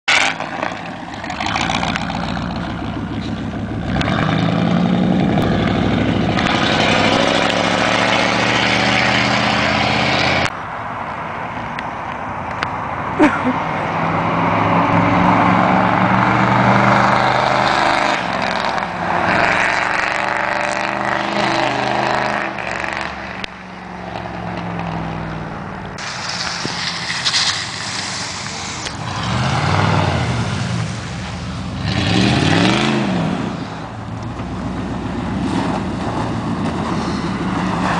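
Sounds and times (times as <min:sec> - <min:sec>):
pickup truck engine revving: 0:00.1 - 0:10.5, 0:13.9 - 0:23.5, 0:26.0 - 0:37.9.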